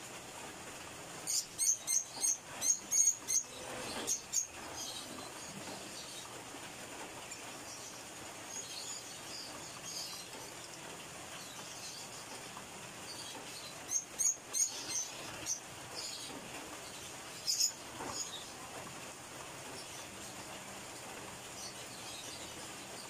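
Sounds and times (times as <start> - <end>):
steady background hiss: 0.0 - 23.0
small birds chirping: 0.4 - 23.0.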